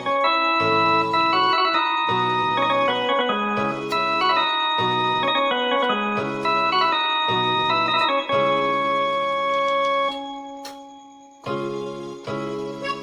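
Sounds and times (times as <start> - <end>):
organ-like keyboard melody: 0.0 - 13.0.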